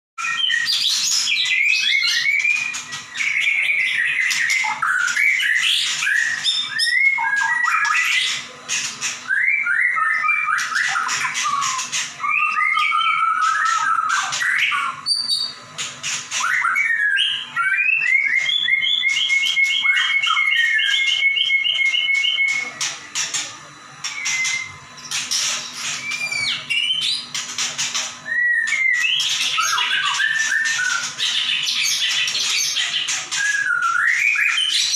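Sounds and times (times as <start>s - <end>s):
songbird singing: 0.2s - 34.9s.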